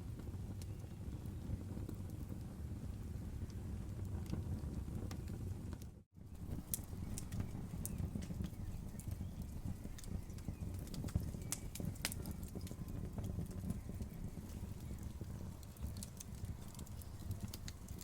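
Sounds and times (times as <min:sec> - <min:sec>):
campfire crackling: 0:00.1 - 0:18.0.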